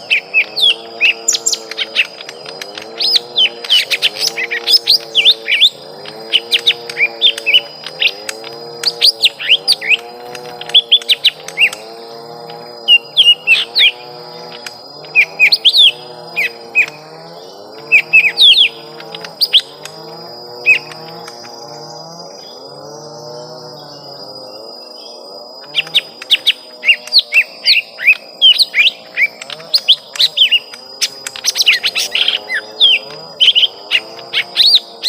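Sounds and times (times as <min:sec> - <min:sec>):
birds chirping sharply: 0:00.0 - 0:35.0.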